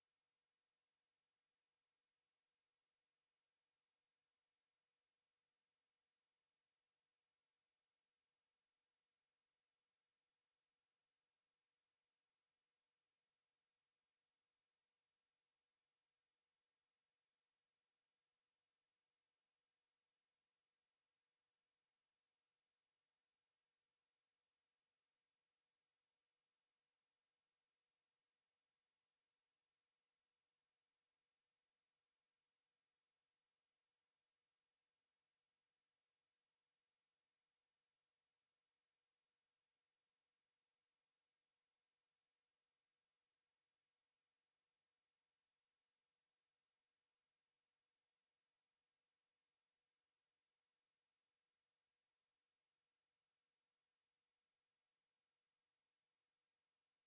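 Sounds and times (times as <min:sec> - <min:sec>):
high-pitched sine test tone: 0:00.0 - 0:57.0.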